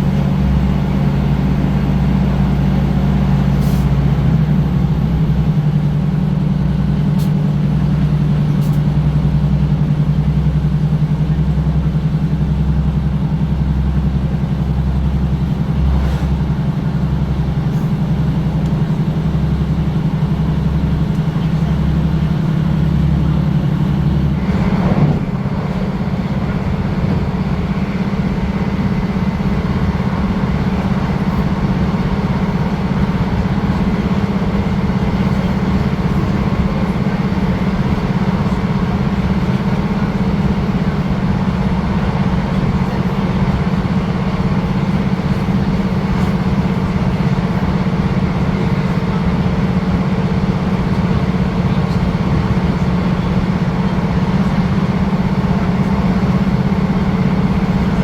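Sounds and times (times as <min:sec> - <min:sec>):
train rumbling along rails: 0:00.0 - 0:58.0.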